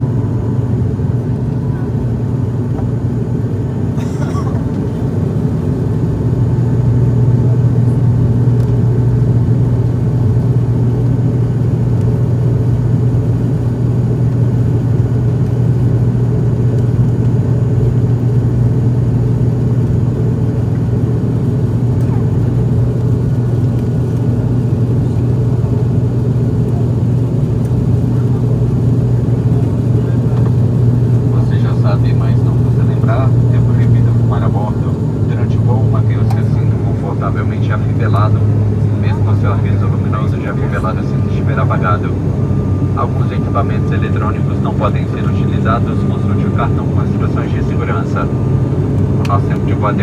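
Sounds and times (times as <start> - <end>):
jet engines low drone: 0.0 - 50.0.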